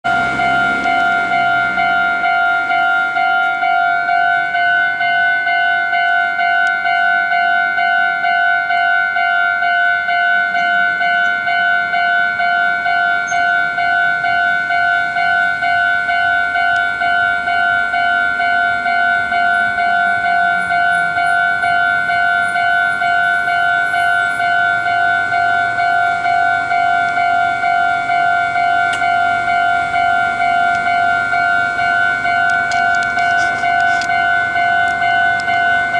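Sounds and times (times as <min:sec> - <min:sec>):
level-crossing alarm ringing: 0:00.0 - 0:35.9.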